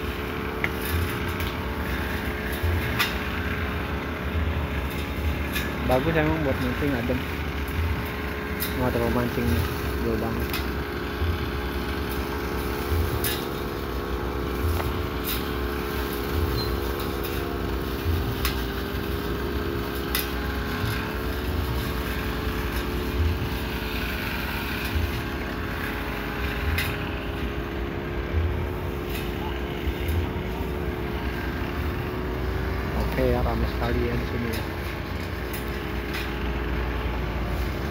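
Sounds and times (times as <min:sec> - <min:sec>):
small engine droning: 0:00.0 - 0:37.9.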